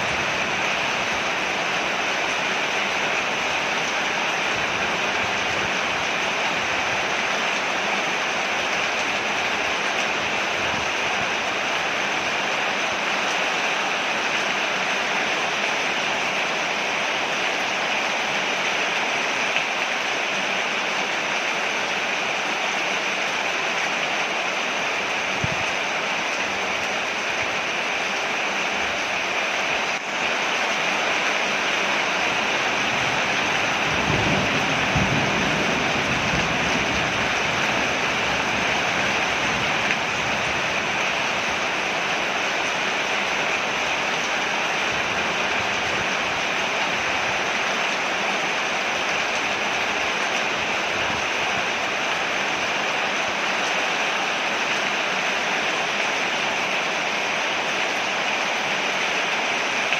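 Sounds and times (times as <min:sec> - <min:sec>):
rain falling on porch: 0:00.0 - 0:59.9.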